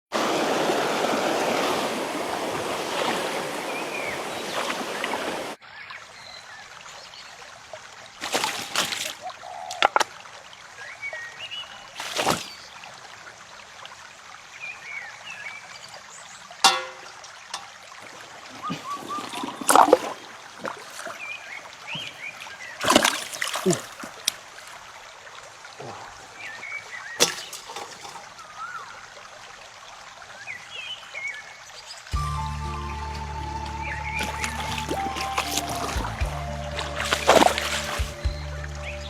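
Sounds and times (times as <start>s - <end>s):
water splashes: 0.0s - 32.2s, 33.8s - 39.0s
mountain stream running: 0.0s - 39.0s.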